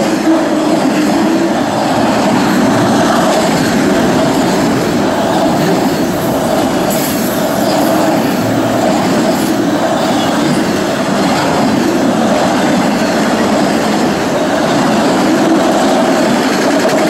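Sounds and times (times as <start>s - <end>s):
steel wheels running on rails: 0.0s - 17.0s.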